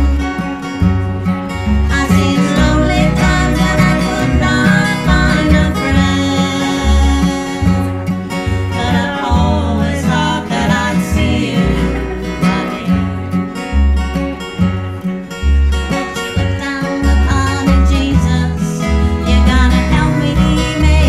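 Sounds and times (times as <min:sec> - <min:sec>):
plucked upright bass: 0:00.0 - 0:21.0
strummed acoustic guitars: 0:00.0 - 0:21.0.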